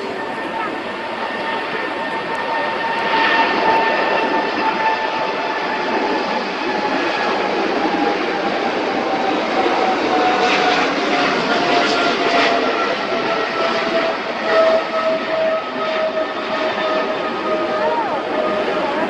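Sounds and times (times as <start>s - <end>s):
jet engines passing: 0.0s - 19.0s.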